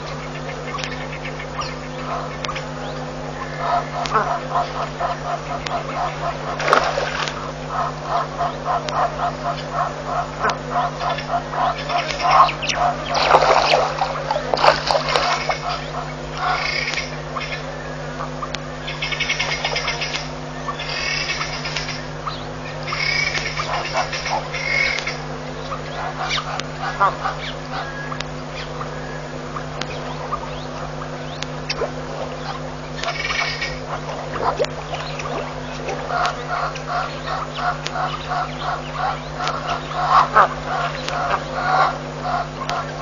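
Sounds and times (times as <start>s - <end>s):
rapid pulsed animal calls: 0.0s - 43.0s
steady low hum: 0.0s - 43.0s.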